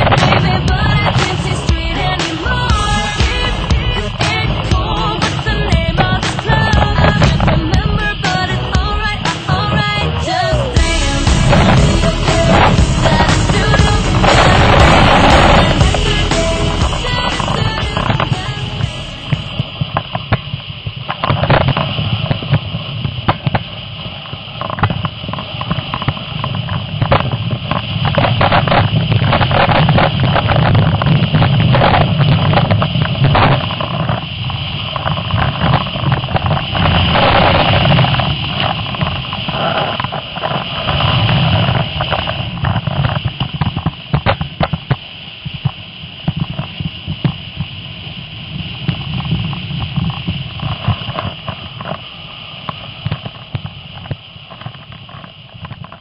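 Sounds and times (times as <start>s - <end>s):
snowboard scraping over snow: 11.1s - 56.0s.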